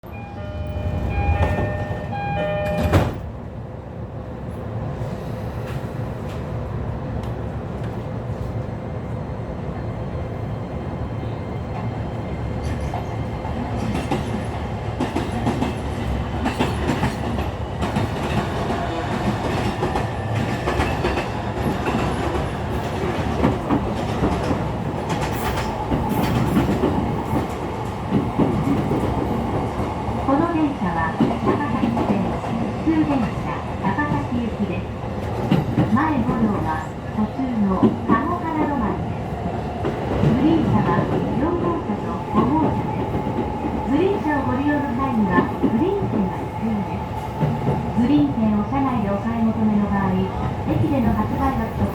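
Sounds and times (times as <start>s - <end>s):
train running noise: 0.1s - 3.4s, 9.7s - 51.9s.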